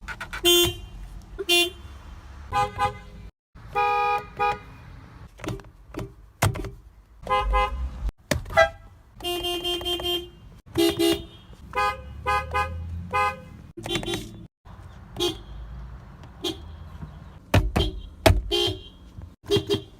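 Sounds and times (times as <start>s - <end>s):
car horns honking: 0.2s - 5.1s, 7.2s - 14.5s, 15.1s - 19.9s.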